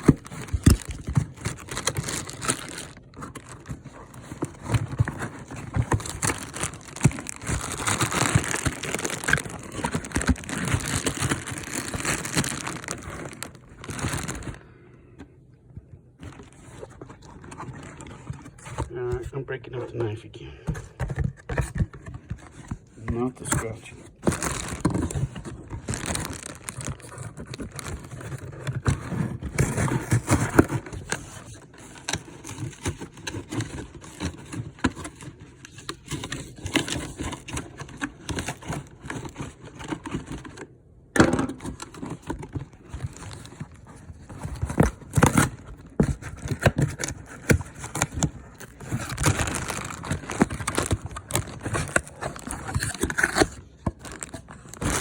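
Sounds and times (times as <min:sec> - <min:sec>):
packaging tearing and crinkling: 0:00.0 - 0:14.7, 0:16.2 - 0:19.2, 0:21.5 - 0:40.7, 0:41.5 - 0:55.0.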